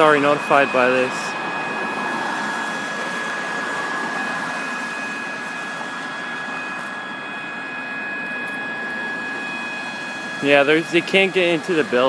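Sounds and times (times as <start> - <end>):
fire alarm horn steady tone: 0.0 - 12.0
steady rushing background noise: 0.0 - 12.0.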